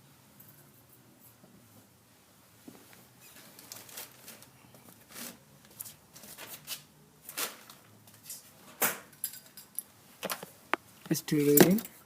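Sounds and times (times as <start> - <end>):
soft rustles and clicks of handling: 0.3 - 12.0.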